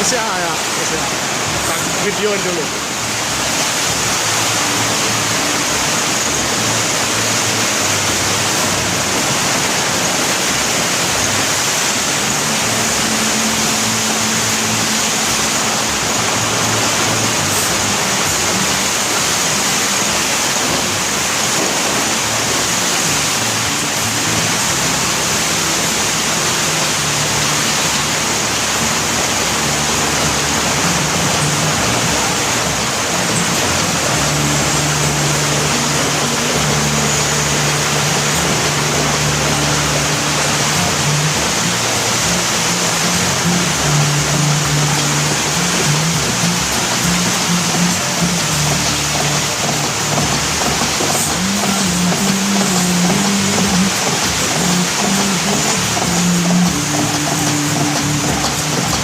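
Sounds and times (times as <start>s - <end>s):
machinery rushing noise: 0.0s - 59.0s.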